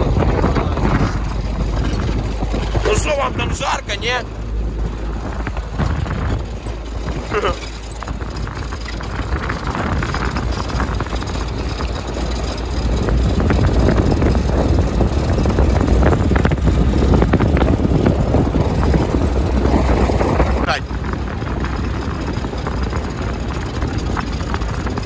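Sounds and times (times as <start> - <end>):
jeep engine rumbling: 0.0 - 25.0
road noise: 0.0 - 25.0.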